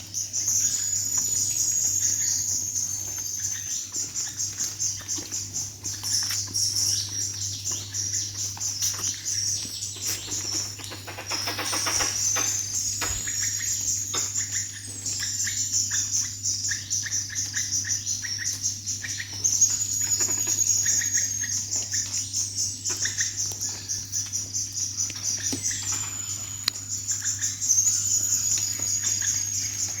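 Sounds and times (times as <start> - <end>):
birds chirping: 0.0 - 30.0
harsh rapid bird chatter: 0.0 - 30.0
high-pitched bird trill: 0.0 - 30.0.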